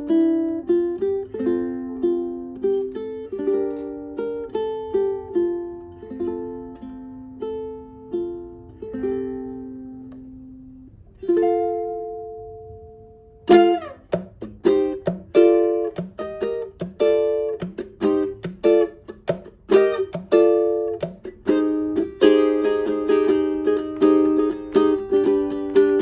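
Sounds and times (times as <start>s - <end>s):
ukulele chord strumming: 0.0s - 26.0s
ukulele plucked melody: 0.0s - 26.0s.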